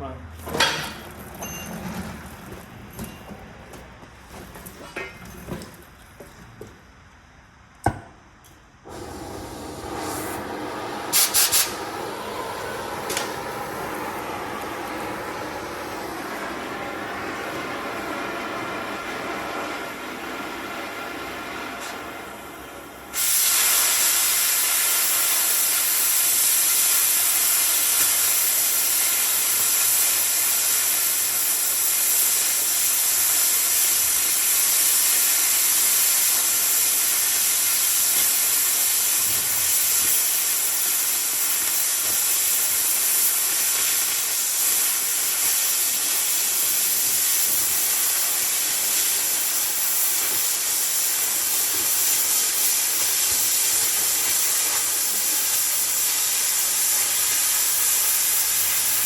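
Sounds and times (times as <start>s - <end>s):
cutting torch hissing: 8.8s - 59.0s.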